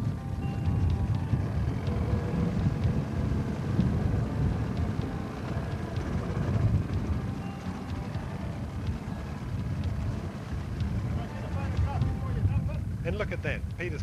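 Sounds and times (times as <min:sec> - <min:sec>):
outboard motor rumbling: 0:00.0 - 0:14.0
wind buffeting microphone: 0:00.0 - 0:14.0.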